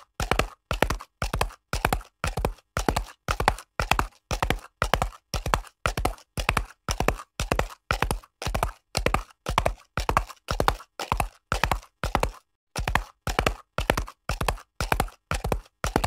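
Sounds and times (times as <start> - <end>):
horse hoofbeats clip-clopping: 0.0 - 16.0.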